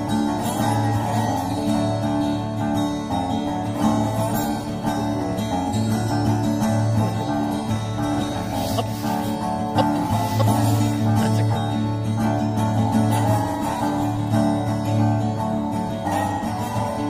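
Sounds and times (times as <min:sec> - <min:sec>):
plucked string tune: 0:00.0 - 0:17.0.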